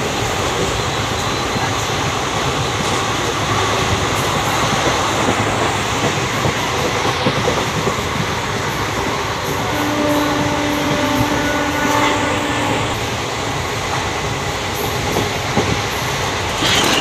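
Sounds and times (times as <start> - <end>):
moving train running noise: 0.0 - 17.0.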